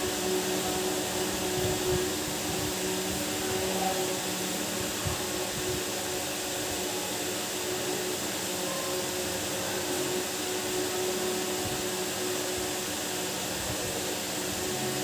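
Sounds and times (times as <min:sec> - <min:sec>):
mechanical whir with hum: 0:00.0 - 0:15.0.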